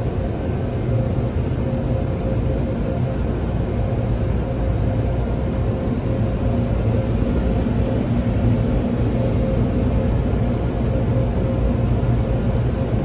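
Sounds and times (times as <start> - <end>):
car wash machinery rumbling: 0.0 - 13.0
faint constant hum: 0.0 - 13.0.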